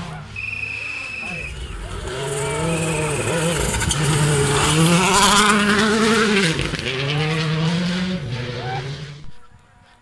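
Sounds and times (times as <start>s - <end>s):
rally car engine passing: 0.0s - 10.0s.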